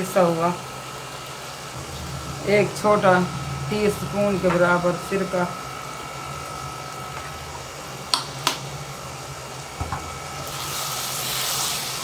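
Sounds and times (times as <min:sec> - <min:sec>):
vegetables sizzling in pan: 0:00.0 - 0:12.0
steady low hum: 0:00.5 - 0:11.5.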